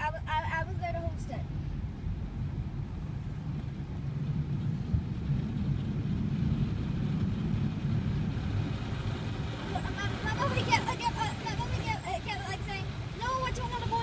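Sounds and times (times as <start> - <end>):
muffled car wash machinery rumble: 0.0 - 14.0.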